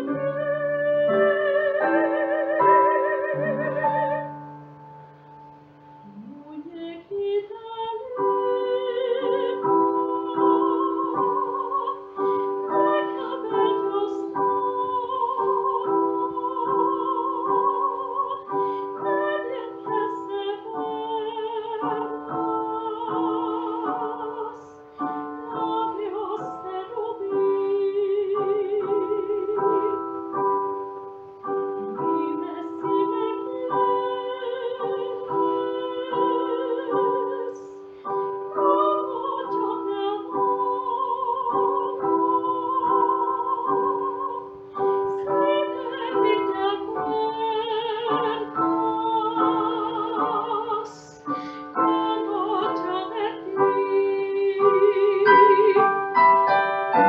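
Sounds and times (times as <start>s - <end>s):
piano repeated chords: 0.0s - 57.0s
soprano singing with vibrato: 0.0s - 57.0s.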